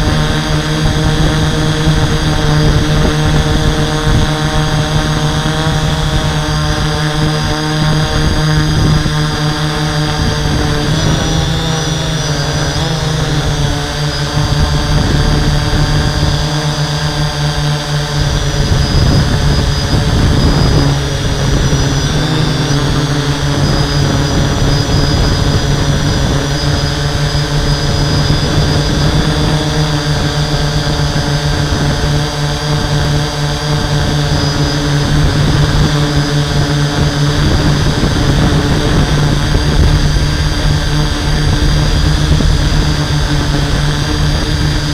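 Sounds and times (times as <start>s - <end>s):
drone motors humming: 0.0s - 44.9s.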